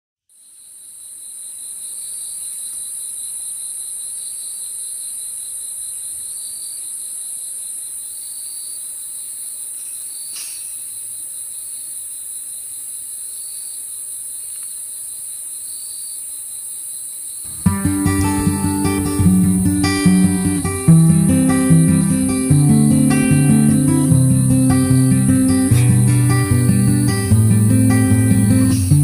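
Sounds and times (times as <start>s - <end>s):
crickets chirping: 0.3s - 29.0s
high-pitched insect hum: 0.3s - 29.0s.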